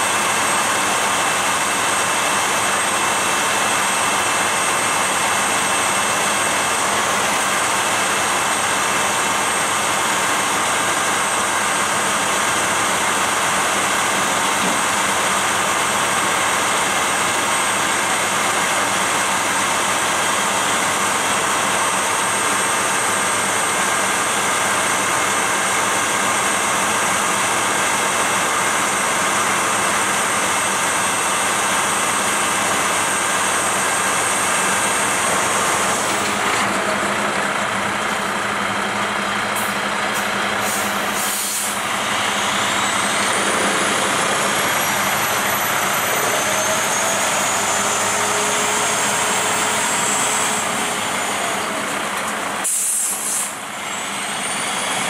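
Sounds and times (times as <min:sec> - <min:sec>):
heavy engine running: 0:00.0 - 0:55.0.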